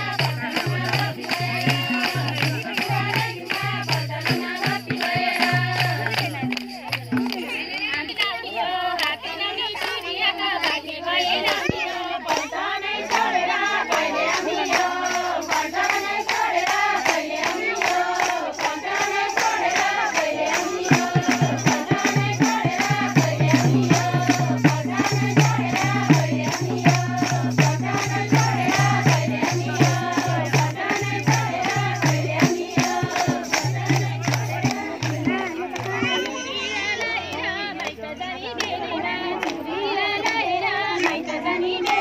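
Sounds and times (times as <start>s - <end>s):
women singing in chorus: 0.0s - 42.0s
clapping: 0.2s - 8.4s, 9.0s - 10.8s, 11.4s - 23.3s, 23.9s - 38.0s, 38.6s - 38.8s, 39.4s - 39.6s, 40.2s - 42.0s.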